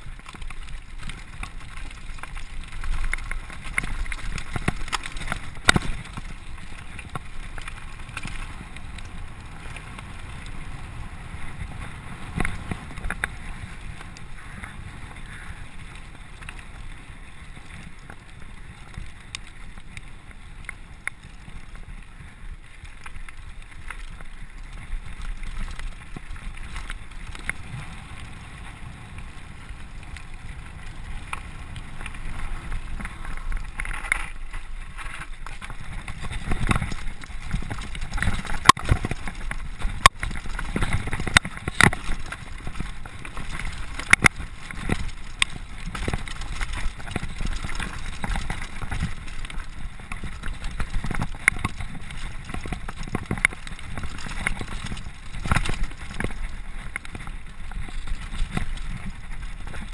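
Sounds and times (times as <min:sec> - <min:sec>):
bike rattling and knocking: 0:00.0 - 0:59.9
bike tyre noise on gravel: 0:00.0 - 0:59.9.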